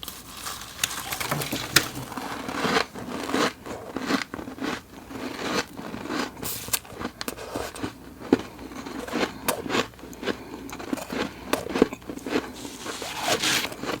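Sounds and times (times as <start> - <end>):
frost being bitten and chewed: 0.0 - 14.0.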